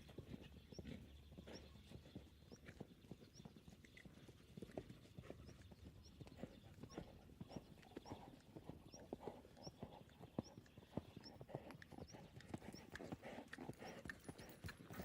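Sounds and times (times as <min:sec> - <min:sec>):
hooves clip-clopping: 0:00.0 - 0:15.0.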